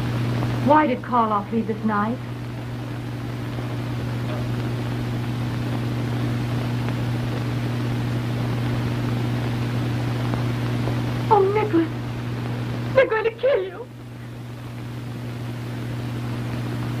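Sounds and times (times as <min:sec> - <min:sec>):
film soundtrack hum and hiss: 0:00.0 - 0:17.0.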